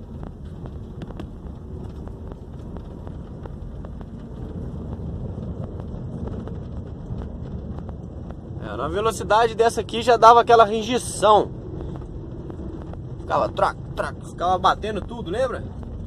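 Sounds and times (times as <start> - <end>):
road and tyre rumble: 0.0 - 16.0.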